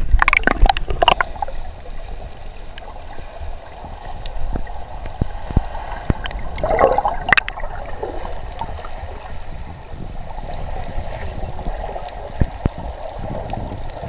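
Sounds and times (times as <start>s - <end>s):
underwater water noise: 0.0s - 14.0s.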